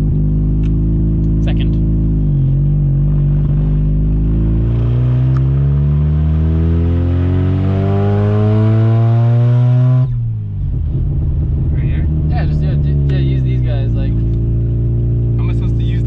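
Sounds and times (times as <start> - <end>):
rotary engine accelerating: 0.0 - 16.0.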